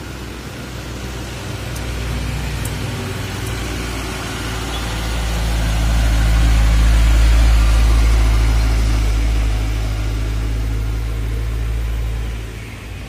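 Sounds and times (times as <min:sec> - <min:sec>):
truck diesel engine passing: 0:00.0 - 0:13.0.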